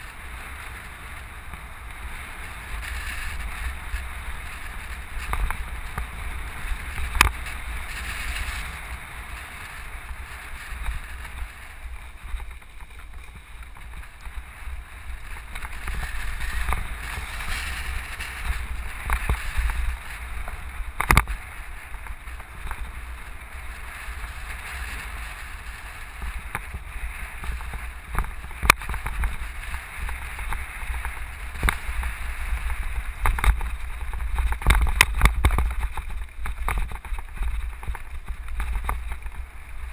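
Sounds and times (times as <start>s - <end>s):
vehicle rumbling on dirt road: 0.0s - 39.9s.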